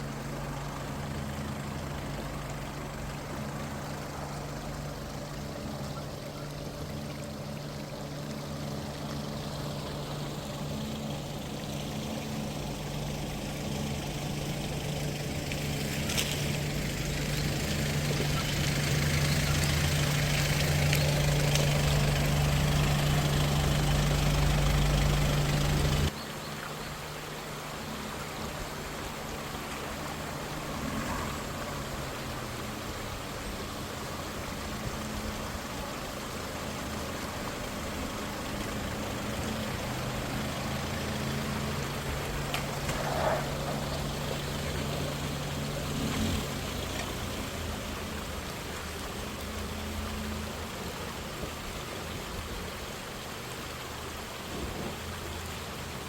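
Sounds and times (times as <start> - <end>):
constant hiss: 0.0 - 56.0
vehicle engine running: 0.0 - 56.0.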